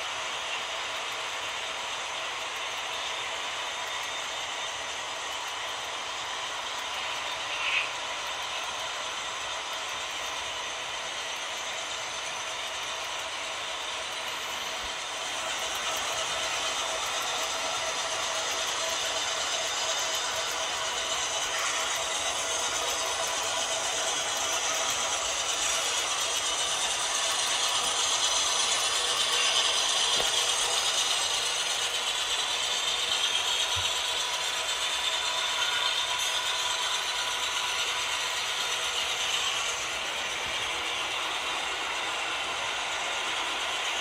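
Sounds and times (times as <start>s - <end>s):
model train whirring and clattering: 0.0s - 44.0s.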